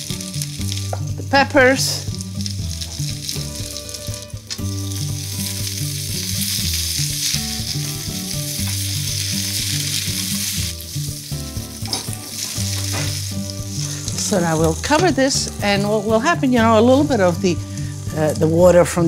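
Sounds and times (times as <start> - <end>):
soft background music: 0.0 - 19.0
vegetables sizzling in oil: 0.0 - 19.0.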